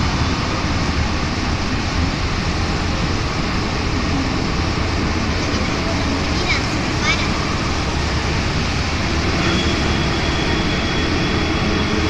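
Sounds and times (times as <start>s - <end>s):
metro train rumble and hiss: 0.0s - 12.0s.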